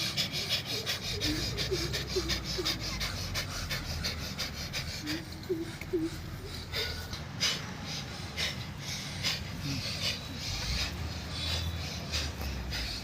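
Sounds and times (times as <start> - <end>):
rapid forceful nose breathing: 0.0 - 13.0.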